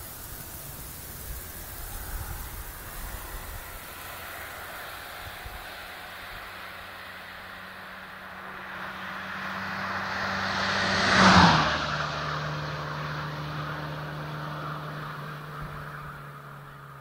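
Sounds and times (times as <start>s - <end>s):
car driving past: 0.0s - 17.0s.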